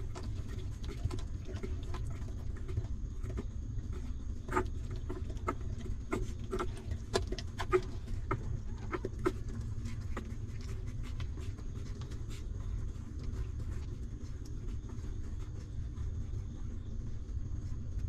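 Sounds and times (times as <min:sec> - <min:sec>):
puppies suckling and shuffling: 0:00.0 - 0:18.0
steady low rumble: 0:00.0 - 0:18.0.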